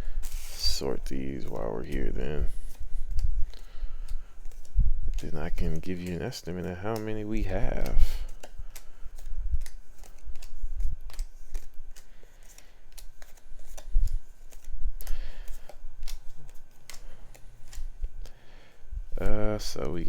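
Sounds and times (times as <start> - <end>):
cards clicking and tapping: 0.2 - 18.4
cards sliding: 0.2 - 18.5.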